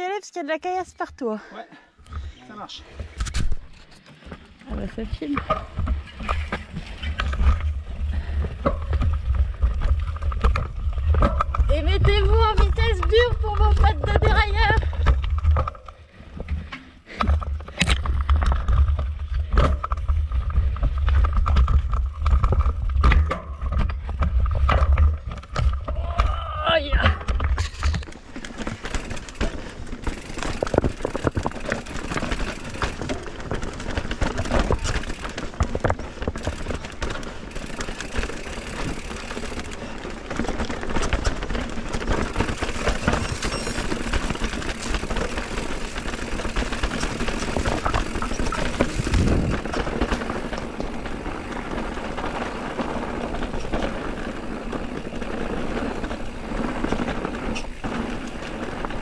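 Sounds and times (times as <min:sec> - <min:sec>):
bike rattling: 0:02.1 - 0:59.0
bike tyres on stones: 0:02.1 - 0:59.0.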